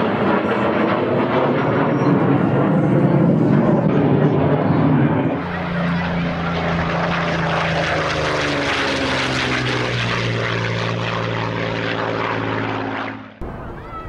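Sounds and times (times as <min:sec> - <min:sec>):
propeller aircraft flying past: 0:00.0 - 0:14.0.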